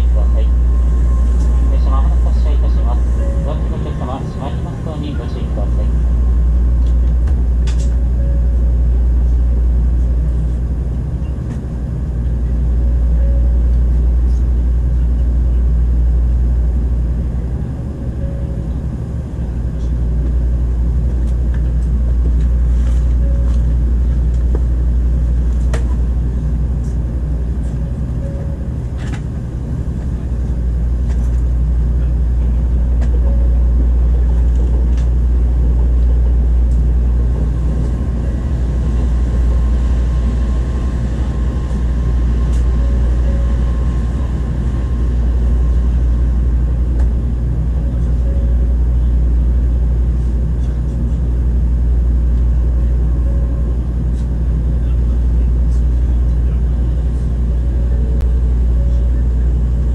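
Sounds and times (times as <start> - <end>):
low hum inside train car: 0.0 - 59.9.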